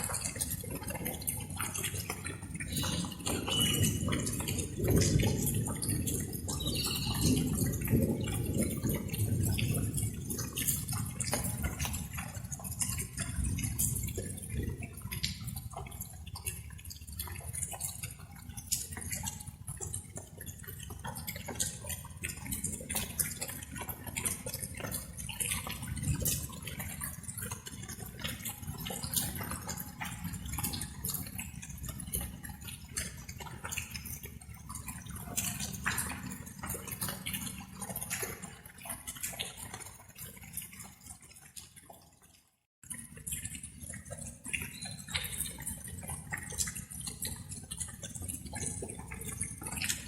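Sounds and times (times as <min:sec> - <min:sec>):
light rain pattering: 0:00.0 - 0:50.0.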